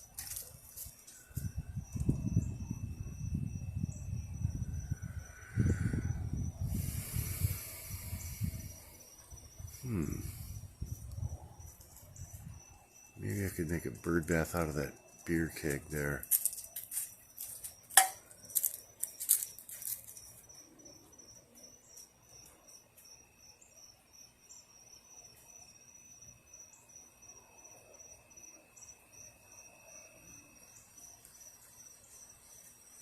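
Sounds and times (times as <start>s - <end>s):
crickets trilling: 0.0s - 33.0s
lower cricket trill: 0.0s - 33.0s.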